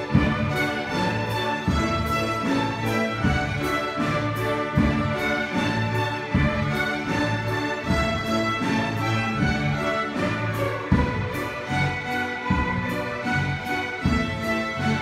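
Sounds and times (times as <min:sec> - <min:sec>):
string orchestra playing: 0:00.0 - 0:15.0.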